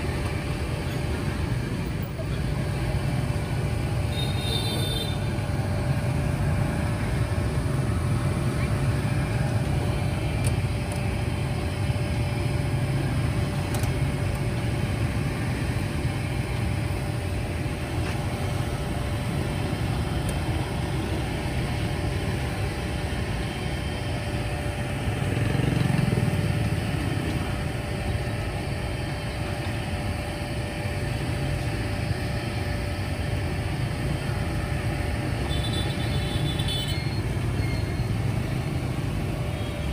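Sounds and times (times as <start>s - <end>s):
busy street traffic rumble: 0.0s - 39.9s.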